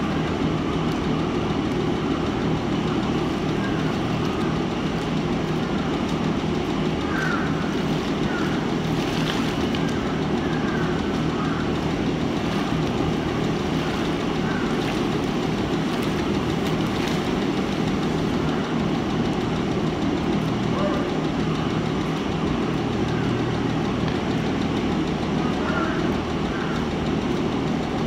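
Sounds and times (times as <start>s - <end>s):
low mechanical drone: 0.0s - 28.0s.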